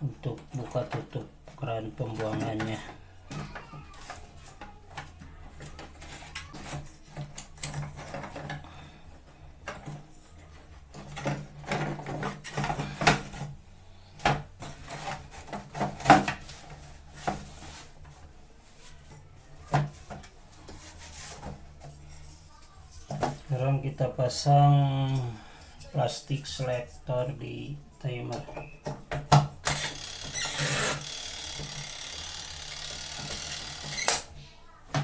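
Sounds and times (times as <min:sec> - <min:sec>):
hands rubbing and scraping parts: 0:00.4 - 0:35.0.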